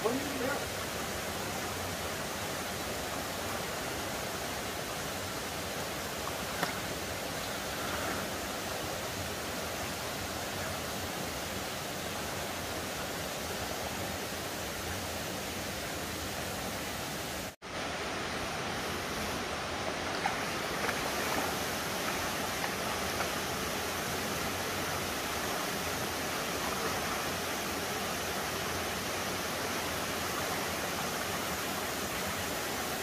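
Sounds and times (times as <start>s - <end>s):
stream running over rocks: 0.0s - 33.0s.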